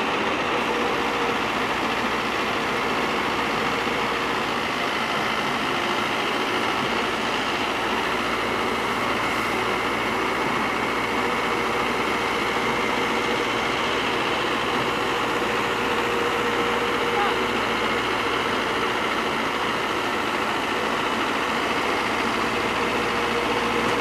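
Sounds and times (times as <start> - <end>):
combine harvester engine running: 0.0 - 24.0.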